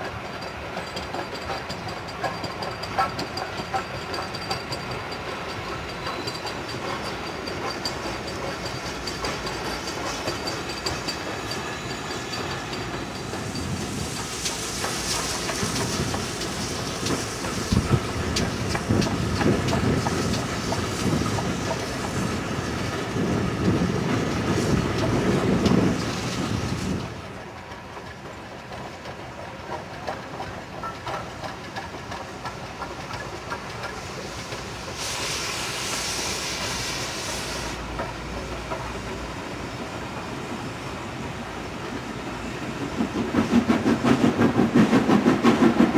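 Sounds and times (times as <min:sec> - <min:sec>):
train wheels clattering over rail joints: 0:00.0 - 0:40.3, 0:41.5 - 0:45.9
steam hissing: 0:00.0 - 0:45.9.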